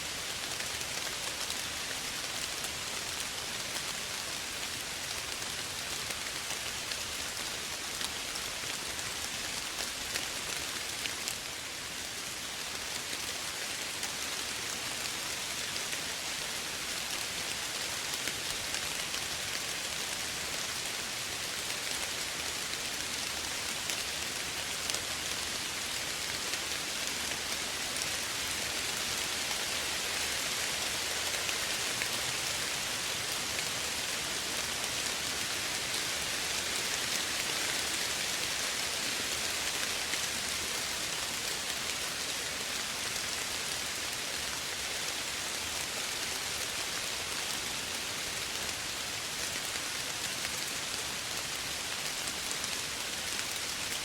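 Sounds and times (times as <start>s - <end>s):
gentle rain hiss: 0.0s - 54.0s.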